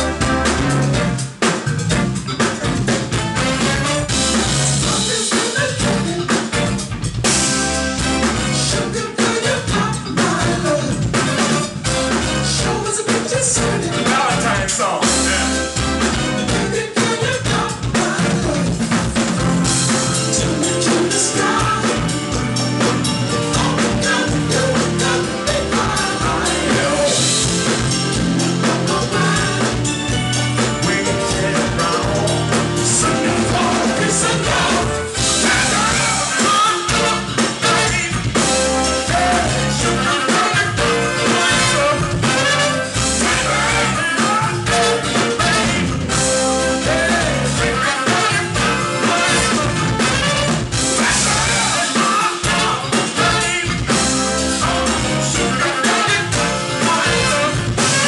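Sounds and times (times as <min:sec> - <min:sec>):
drum kit beat: 0:00.0 - 0:58.0
live band playing: 0:00.0 - 0:58.0.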